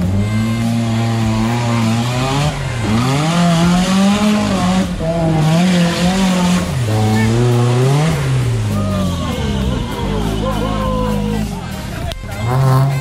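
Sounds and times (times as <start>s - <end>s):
engine revving hard: 0.0s - 13.0s
water splashing around vehicle: 0.0s - 13.0s.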